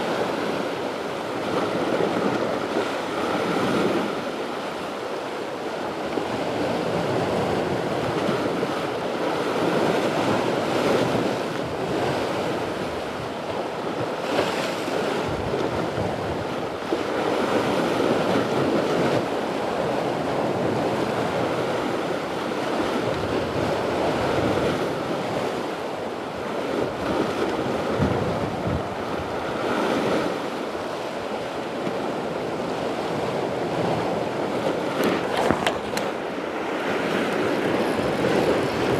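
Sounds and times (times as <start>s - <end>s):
waves breaking against rocks: 0.0s - 38.9s
wind buffeting microphone: 5.3s - 38.9s.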